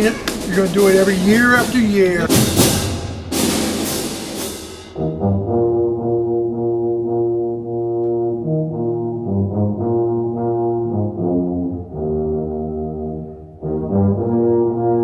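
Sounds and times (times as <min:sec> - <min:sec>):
brass chords: 0:00.0 - 0:15.0.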